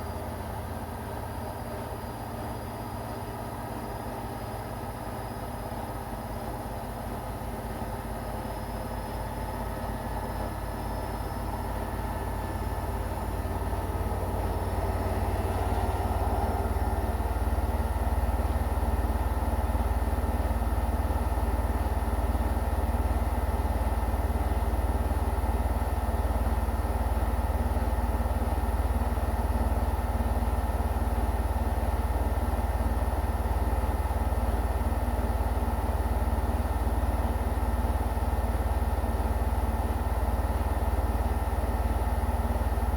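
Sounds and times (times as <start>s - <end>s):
washing machine drone: 0.0s - 42.9s.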